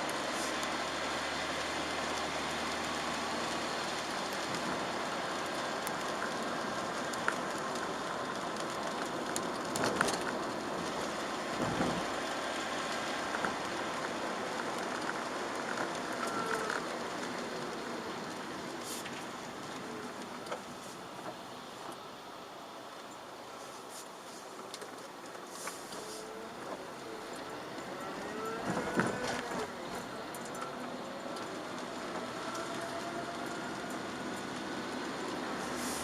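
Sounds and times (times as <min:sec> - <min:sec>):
rain hiss: 0:00.0 - 0:36.0
tyres on wet road: 0:00.0 - 0:36.0.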